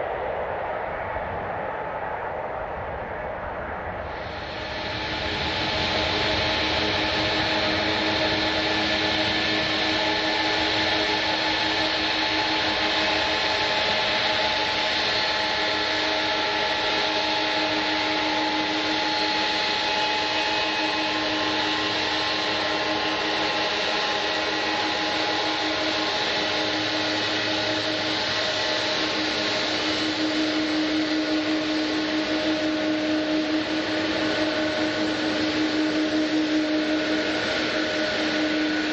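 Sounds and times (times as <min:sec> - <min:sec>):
jet airliner engines running: 0:00.0 - 0:38.9.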